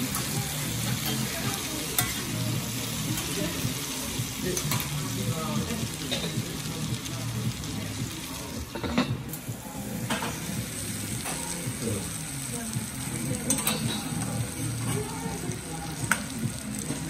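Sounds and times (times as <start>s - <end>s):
butter sizzling on a griddle: 0.0s - 17.0s.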